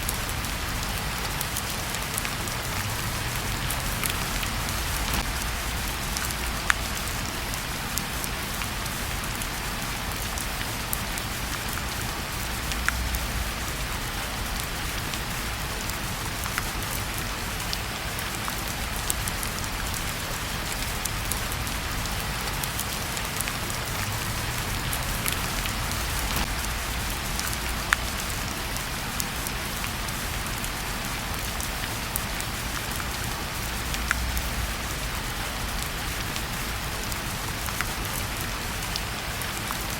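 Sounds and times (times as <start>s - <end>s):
fire crackling: 0.0s - 39.7s
rain falling: 0.0s - 39.9s.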